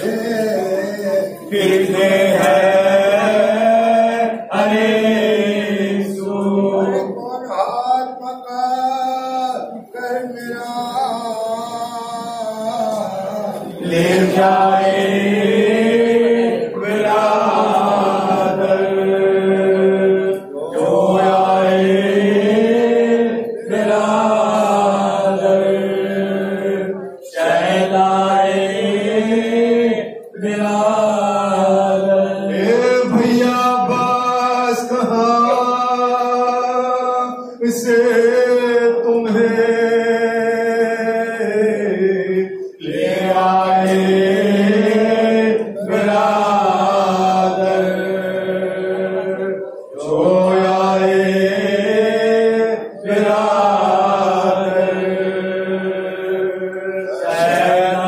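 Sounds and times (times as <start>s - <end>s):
men chanting into microphones: 0.0s - 58.0s.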